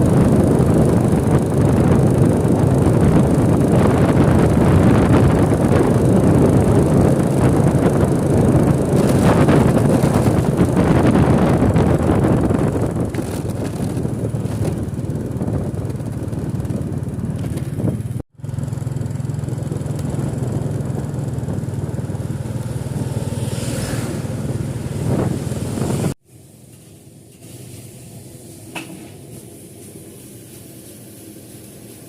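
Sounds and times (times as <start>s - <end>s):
road noise: 0.0s - 26.2s
vehicle engine hum: 0.0s - 26.2s.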